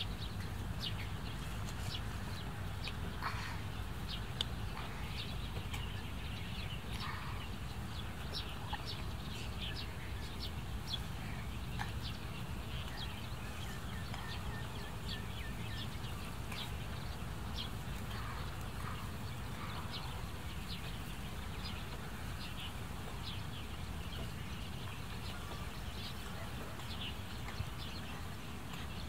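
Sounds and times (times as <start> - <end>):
birds chirping: 0.0 - 29.0
steady low rumble: 0.0 - 29.0.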